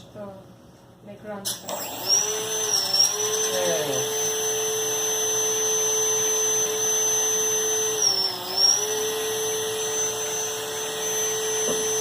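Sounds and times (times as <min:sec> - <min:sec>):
small electric motor whining: 0:01.6 - 0:12.0.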